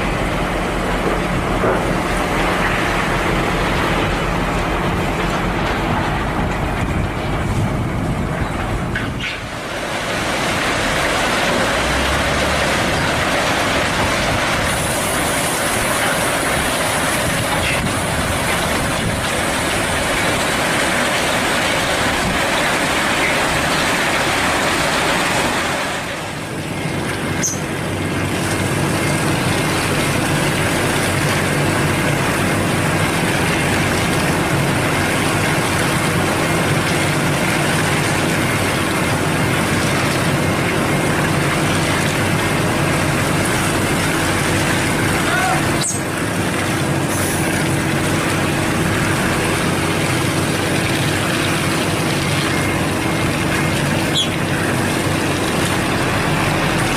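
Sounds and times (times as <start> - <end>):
cement mixer rushing noise: 0.0 - 56.9
diesel engine hum: 0.0 - 56.9.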